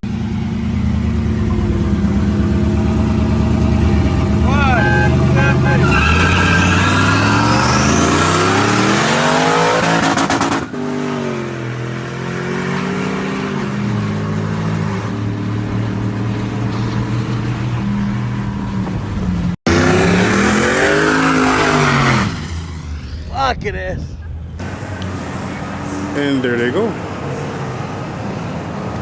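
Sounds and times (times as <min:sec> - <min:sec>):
truck engine revving: 0:00.0 - 0:23.3, 0:24.3 - 0:29.0.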